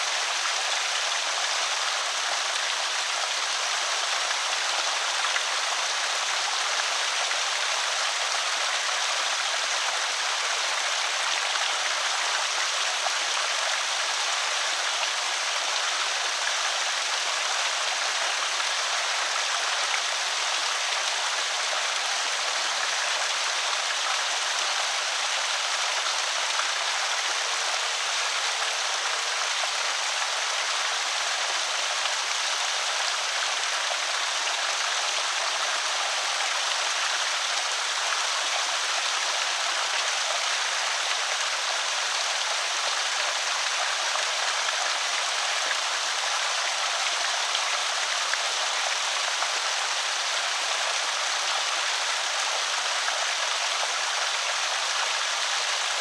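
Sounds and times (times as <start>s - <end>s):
water rushing over spillway: 0.0s - 56.0s.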